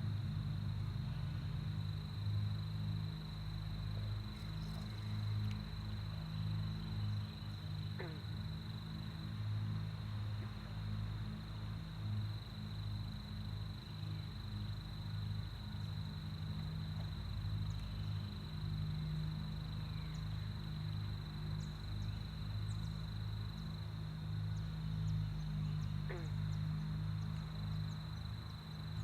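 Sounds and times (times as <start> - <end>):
cicadas droning: 0.0 - 29.0
low pulsing hum: 0.0 - 29.0.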